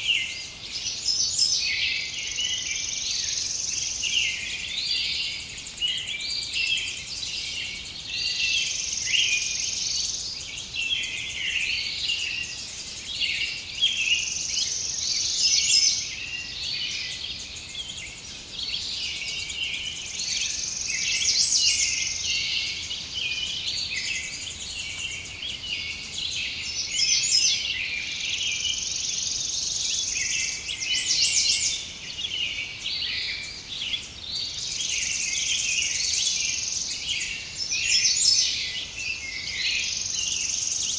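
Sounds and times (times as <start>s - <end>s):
forest birds chirping and singing: 0.0s - 40.9s.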